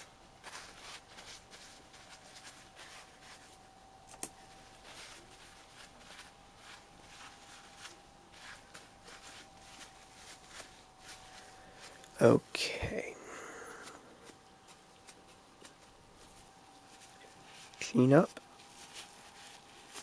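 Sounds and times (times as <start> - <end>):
faint steady hum: 0.0 - 20.0
rustling and handling noises: 0.0 - 20.0.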